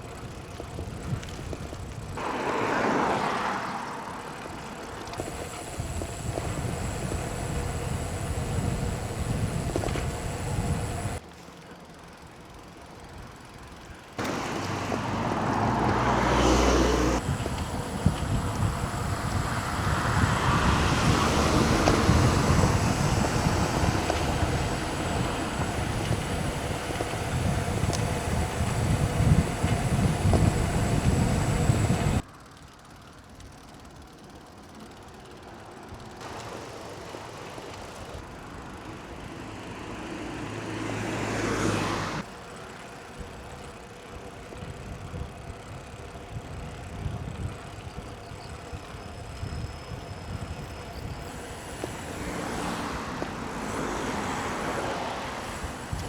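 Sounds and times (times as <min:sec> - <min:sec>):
wind and road noise: 0:00.0 - 0:11.3, 0:12.1 - 0:56.0
vehicles passing: 0:00.0 - 0:56.0.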